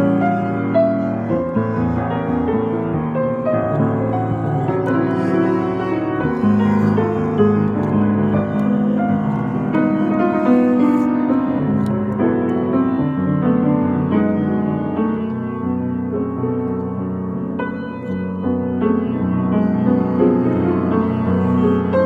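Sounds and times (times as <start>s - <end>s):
piano chords and melody: 0.0s - 22.0s.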